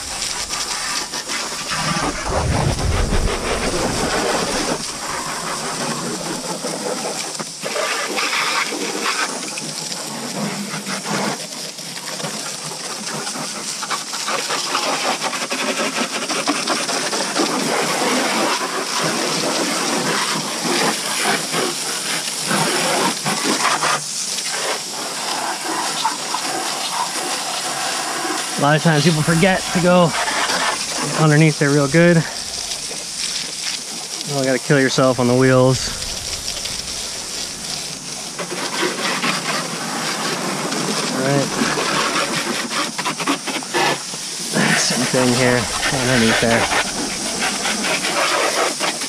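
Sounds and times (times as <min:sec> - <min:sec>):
pressure washer spraying water: 0:00.0 - 0:10.8, 0:19.2 - 0:49.0.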